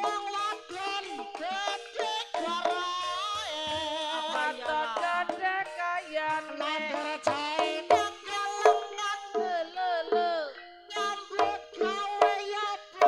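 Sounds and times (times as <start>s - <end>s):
hand drum strokes: 0.0s - 13.0s.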